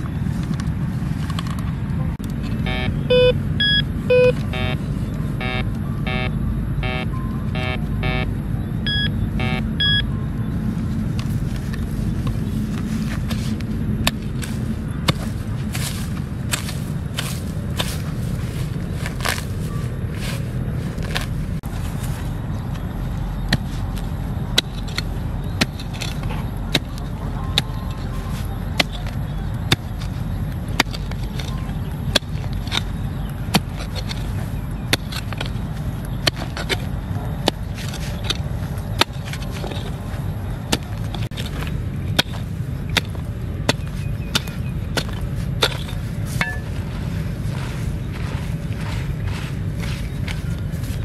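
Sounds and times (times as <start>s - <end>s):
steady low rumble: 0.0s - 51.0s.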